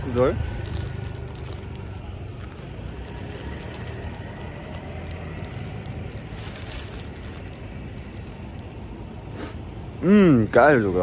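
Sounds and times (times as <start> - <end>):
plastic bag crinkling: 0.0 - 9.3
street traffic rumble: 0.0 - 11.0.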